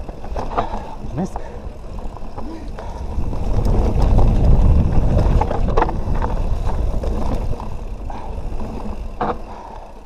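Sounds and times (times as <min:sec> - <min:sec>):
bike rattling clicks: 0:00.0 - 0:10.0
wind and tyres rumbling: 0:00.0 - 0:10.0.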